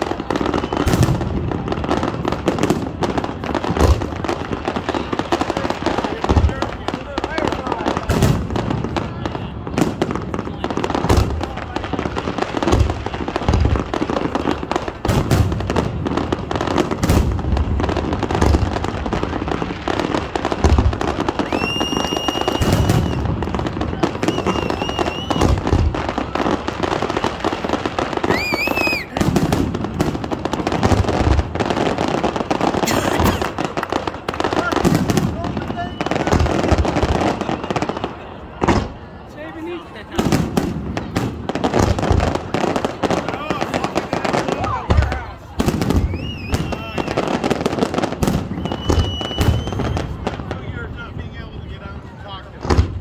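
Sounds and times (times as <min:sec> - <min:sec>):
high steady firework whistles: 0:00.0 - 0:16.0, 0:16.8 - 0:39.2, 0:42.0 - 0:51.6
fireworks booming and banging: 0:00.0 - 0:53.0.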